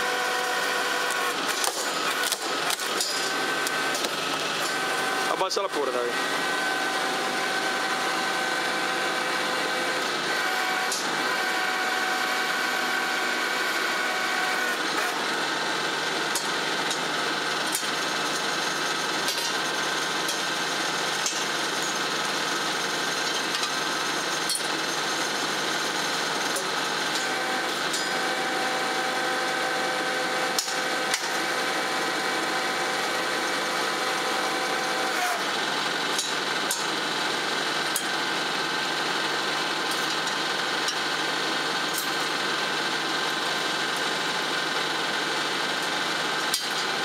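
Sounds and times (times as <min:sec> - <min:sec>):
hydraulic log splitter whining: 0:00.0 - 0:47.0.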